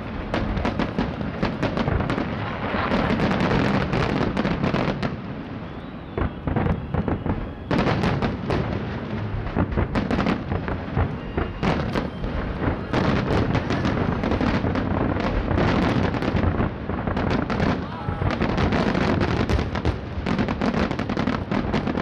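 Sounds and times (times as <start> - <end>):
fireworks bursting bangs: 0.0 - 22.0.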